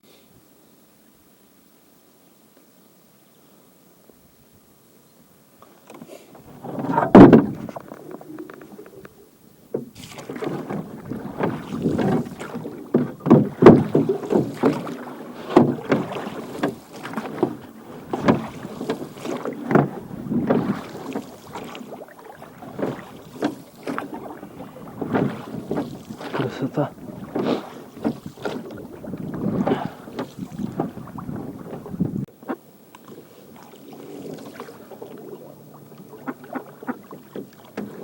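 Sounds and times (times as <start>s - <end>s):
oars splashing in water: 5.6s - 38.0s.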